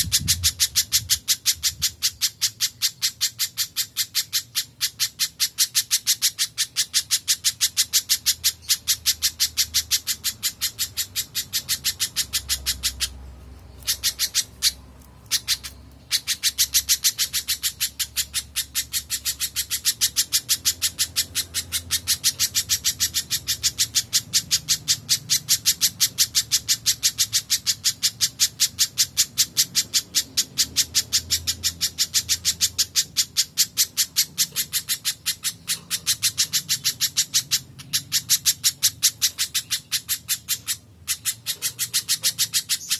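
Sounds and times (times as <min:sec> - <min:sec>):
bird calling sharp notes: 0:00.0 - 0:42.9.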